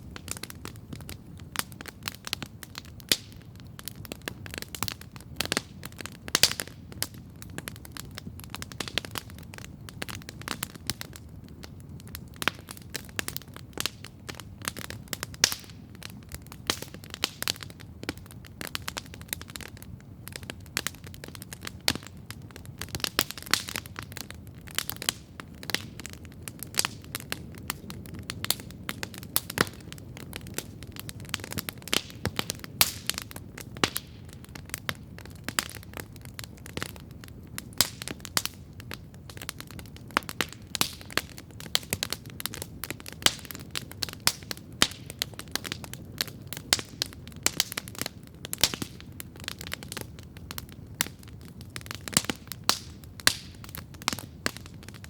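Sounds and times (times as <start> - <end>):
campfire crackling and popping: 0.0 - 55.0
low rumble of burning fire: 0.0 - 55.0.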